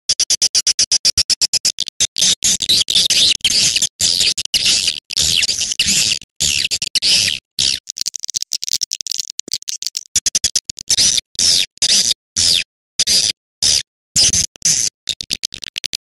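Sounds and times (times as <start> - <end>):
rapid clicking twitter: 0.1 - 12.2, 13.0 - 16.0.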